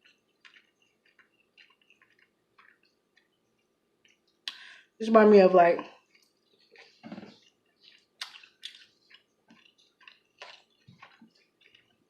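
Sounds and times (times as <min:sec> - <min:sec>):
wet chewing mouth clicks: 0:00.0 - 0:04.7, 0:05.9 - 0:12.0.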